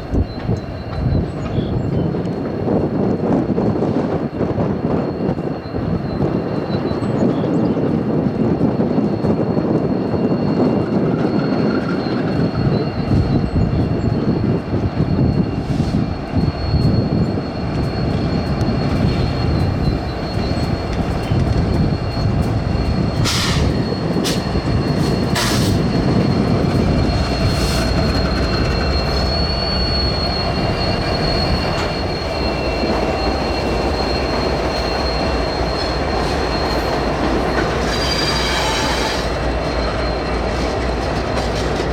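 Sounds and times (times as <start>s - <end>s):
high wheel squeal: 0.0s - 41.9s
locomotive engine and wheel rumble: 0.0s - 41.9s.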